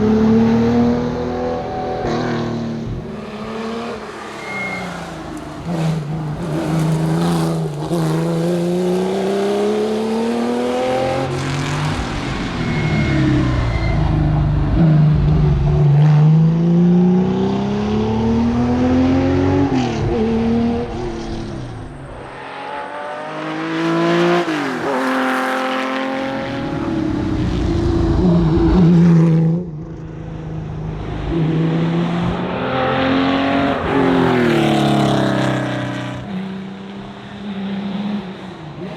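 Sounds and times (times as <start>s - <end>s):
race car engine revving through gears: 0.0s - 38.9s.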